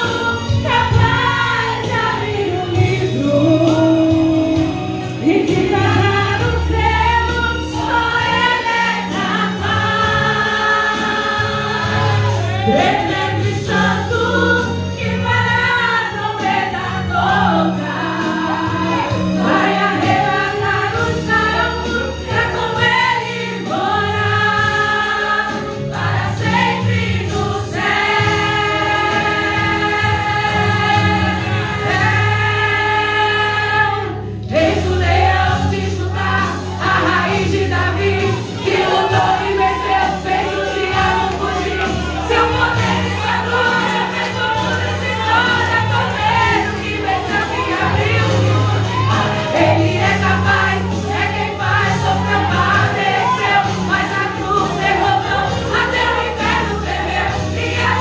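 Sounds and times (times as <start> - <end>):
women's choir singing a hymn: 0.0 - 58.0.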